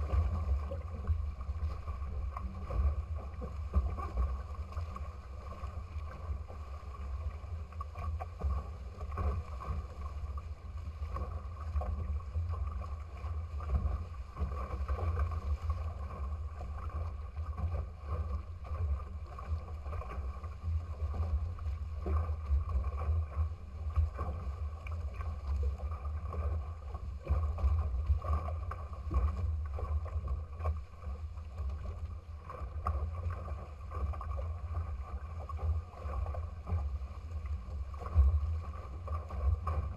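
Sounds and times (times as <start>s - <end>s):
water rushing past hulls: 0.0s - 39.9s.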